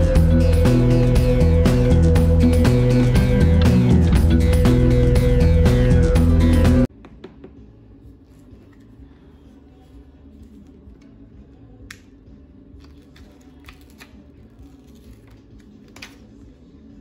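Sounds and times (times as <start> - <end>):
faint music: 0.0 - 17.0.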